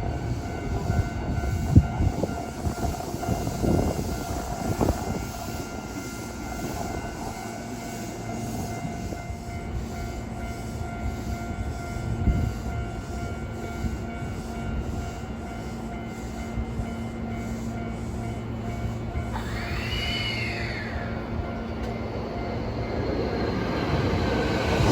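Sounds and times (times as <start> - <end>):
electric train whine: 0.0 - 24.9
train rumbling on rails: 0.0 - 24.9.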